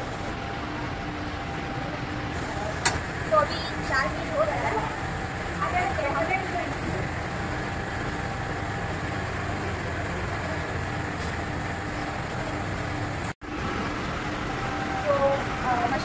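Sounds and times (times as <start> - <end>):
electric dough kneader running: 0.0 - 16.0.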